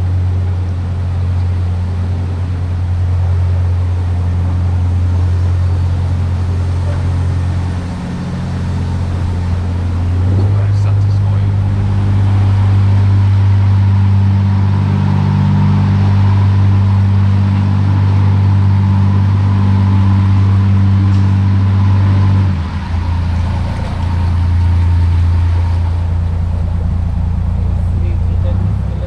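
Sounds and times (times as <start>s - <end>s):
boat diesel engine running: 0.0s - 29.0s.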